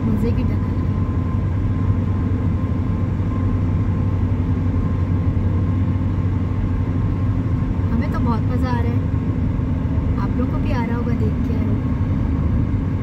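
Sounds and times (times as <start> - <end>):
car engine and tyres rumbling: 0.0 - 13.0
faint steady whine: 0.0 - 13.0.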